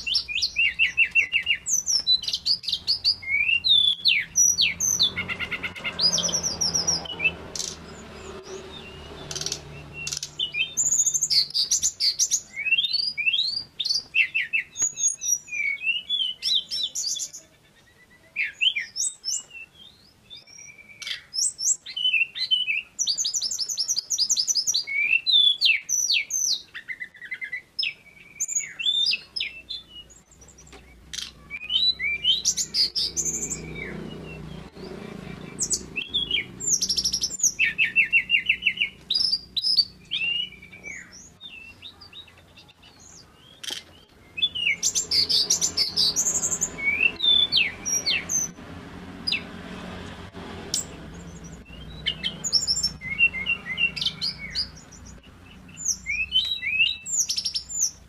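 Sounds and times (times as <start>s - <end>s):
bird singing whistled notes: 0.0s - 48.6s, 50.7s - 58.0s.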